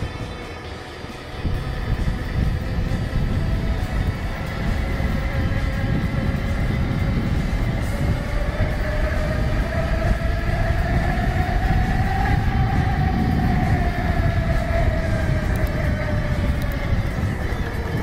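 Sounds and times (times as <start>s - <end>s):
train rumbling with whine: 0.0s - 18.0s.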